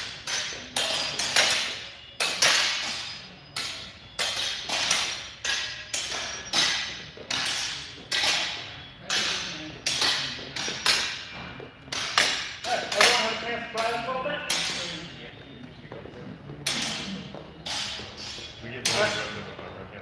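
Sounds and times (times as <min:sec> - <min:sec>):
training swords striking: 0:00.0 - 0:15.2, 0:16.6 - 0:19.5.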